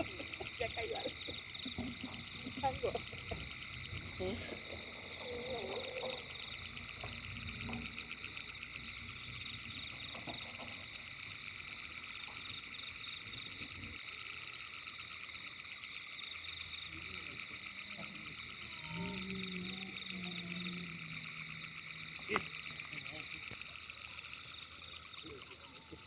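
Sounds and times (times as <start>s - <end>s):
animals calling in high pulsing chorus: 0.0s - 26.0s.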